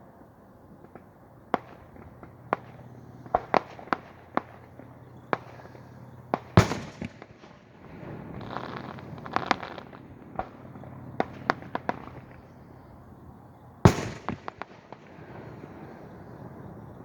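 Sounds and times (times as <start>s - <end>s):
firework pops and crackles: 0.8s - 12.6s, 13.9s - 16.0s.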